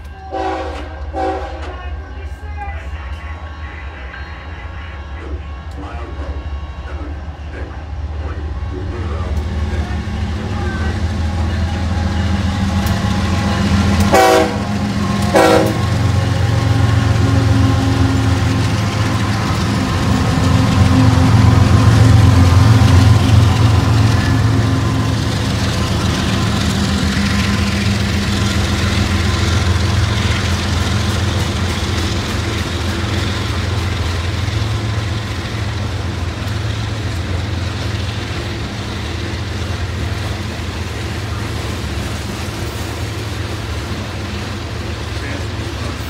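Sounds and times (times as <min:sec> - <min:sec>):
diesel locomotive engine drone: 0:00.0 - 0:46.0
freight cars rolling rumble: 0:05.5 - 0:46.0.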